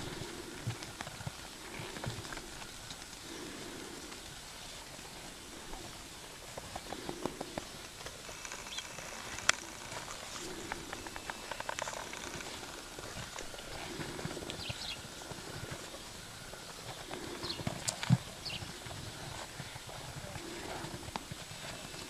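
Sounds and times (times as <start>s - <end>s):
horse hooves stepping on tires: 0.0s - 22.0s.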